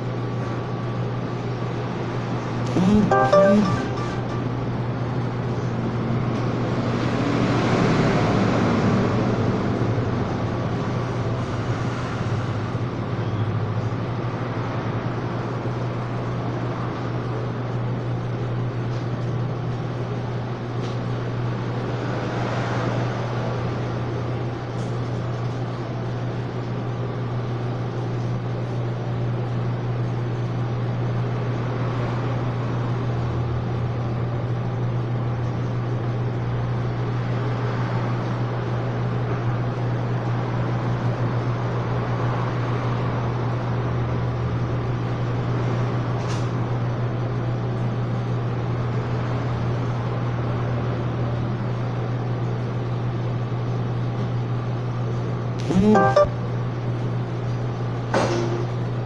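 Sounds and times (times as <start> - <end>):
steady mechanical hum: 4.1 - 55.6.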